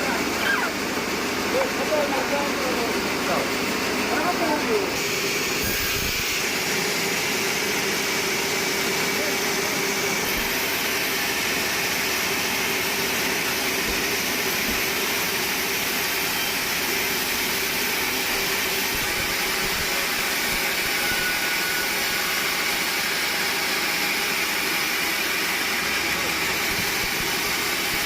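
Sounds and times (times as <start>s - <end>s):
sawmill machinery whirring: 0.0s - 28.0s.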